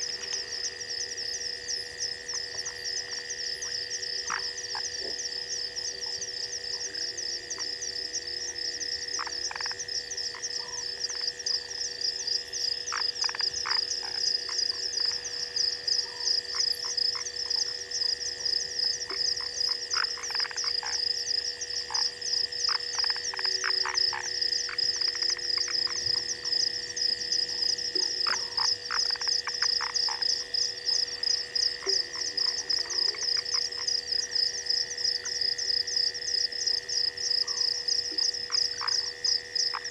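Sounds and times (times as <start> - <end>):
constant high tone: 0.0 - 39.9.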